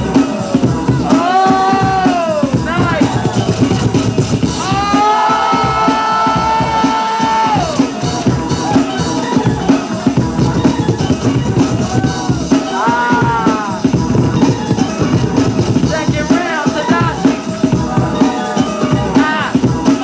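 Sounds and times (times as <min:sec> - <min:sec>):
hip-hop break music: 0:00.0 - 0:20.0.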